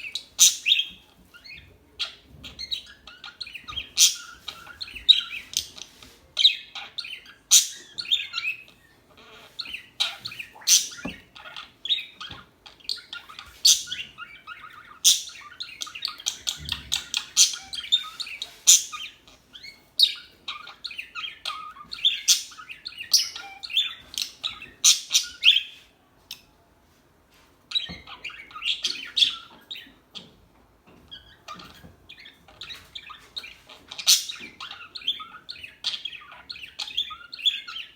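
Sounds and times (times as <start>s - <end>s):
budgerigars chattering and chirping: 0.0s - 26.5s, 27.7s - 30.3s, 30.9s - 37.9s.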